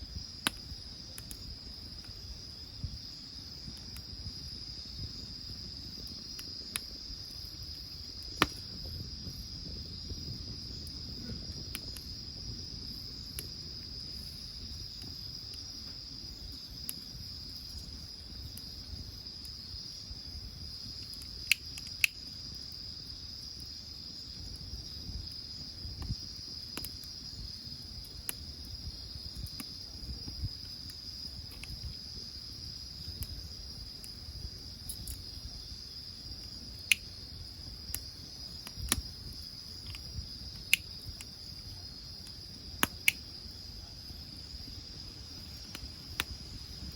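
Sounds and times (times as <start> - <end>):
firewood popping and crackling: 0.0 - 46.9
insects chirring: 0.0 - 46.9.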